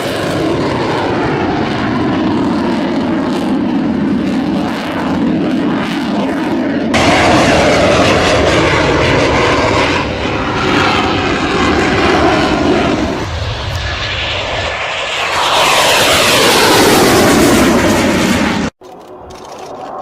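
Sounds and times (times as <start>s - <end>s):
fighter jet flying overhead: 0.0s - 20.0s.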